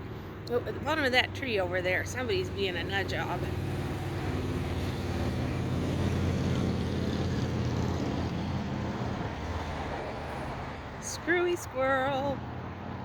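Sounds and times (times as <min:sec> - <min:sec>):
motor vehicle engine hum: 0:00.0 - 0:13.0.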